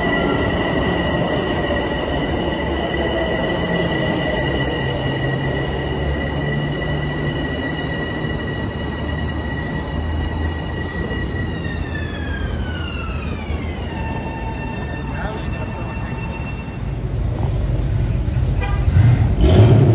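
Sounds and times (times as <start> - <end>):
train rumble: 0.0 - 19.9.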